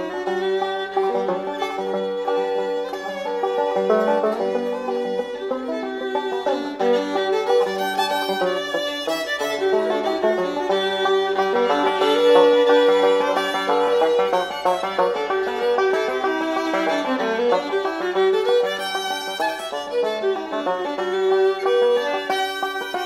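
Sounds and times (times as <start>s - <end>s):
fiddle tune: 0.0s - 23.0s
plucked strings: 0.0s - 23.0s.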